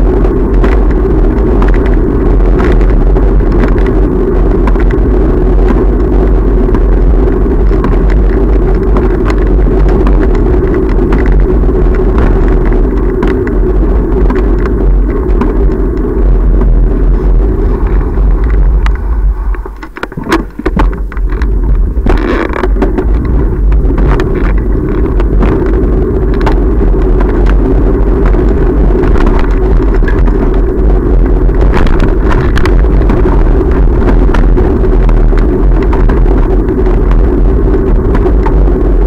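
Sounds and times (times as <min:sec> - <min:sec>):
wind and road rumble: 0:00.0 - 0:39.0.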